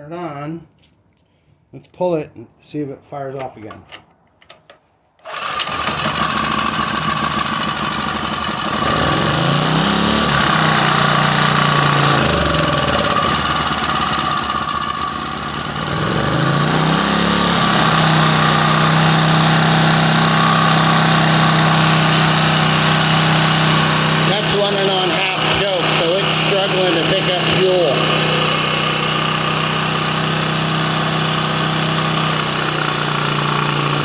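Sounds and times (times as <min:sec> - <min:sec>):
generator engine running: 0:05.2 - 0:34.0.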